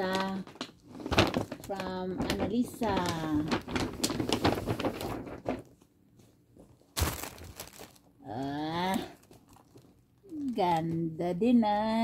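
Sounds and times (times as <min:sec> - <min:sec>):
gift bag rustling and crinkling: 0:00.0 - 0:11.2.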